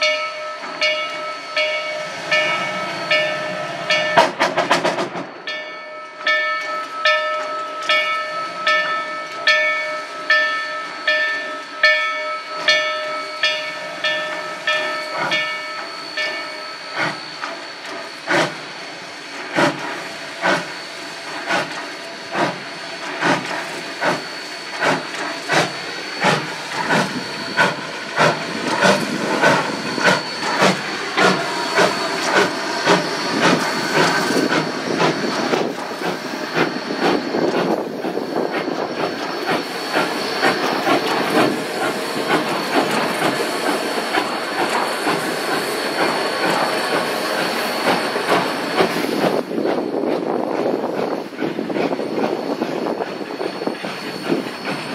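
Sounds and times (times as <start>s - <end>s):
steady steam hiss: 0.0s - 5.4s, 8.3s - 54.9s
steam locomotive exhaust chuffs: 0.0s - 5.5s, 6.1s - 54.9s
train cars rolling: 0.0s - 54.9s.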